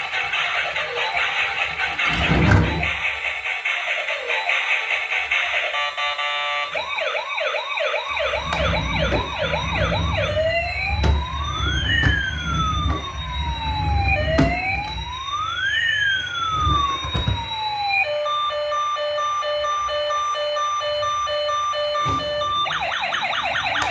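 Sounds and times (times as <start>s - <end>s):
electronic siren: 0.7s - 3.2s, 5.2s - 23.9s.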